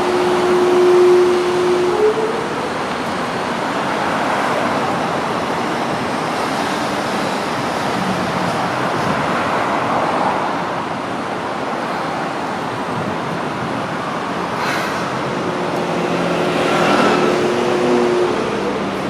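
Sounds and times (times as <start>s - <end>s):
city traffic passing: 0.0s - 19.0s
large vehicle hum: 0.0s - 19.0s.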